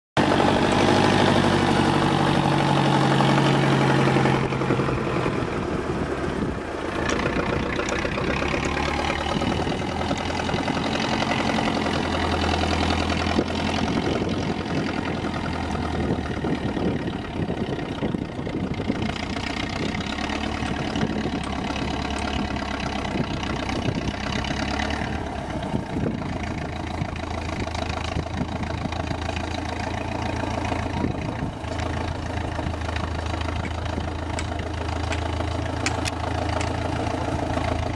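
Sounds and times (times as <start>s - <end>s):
truck engines revving: 0.2s - 37.9s.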